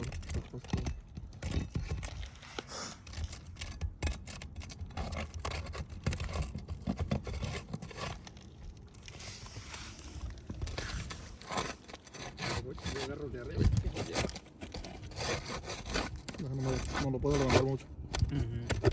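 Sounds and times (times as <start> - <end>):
scraping on roof shingles: 0.0 - 18.9.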